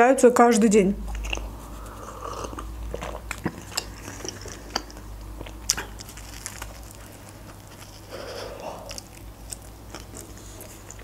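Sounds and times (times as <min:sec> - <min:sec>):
chewing sandwich: 0:01.1 - 0:11.0.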